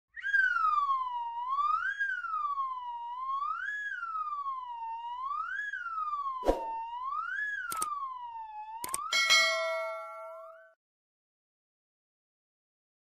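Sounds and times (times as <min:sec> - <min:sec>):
siren-like wailing tone: 0:00.1 - 0:10.8.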